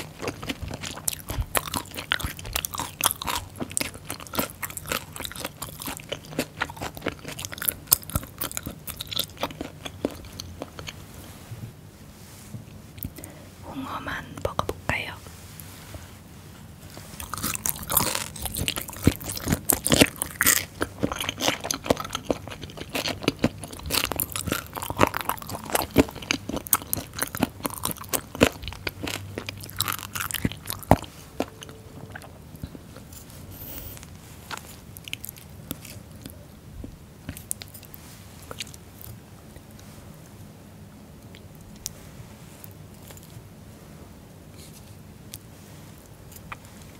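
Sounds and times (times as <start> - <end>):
crunchy chewing: 0.0 - 11.4, 16.9 - 40.4, 41.2 - 43.5, 44.5 - 46.9.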